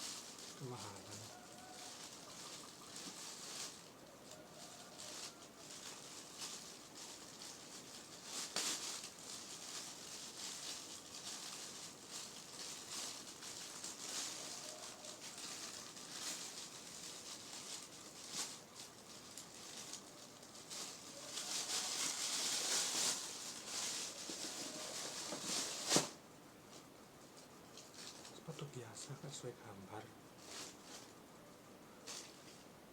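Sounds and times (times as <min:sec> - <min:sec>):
plastic wrapping crinkling: 0:00.0 - 0:31.3, 0:31.9 - 0:32.7.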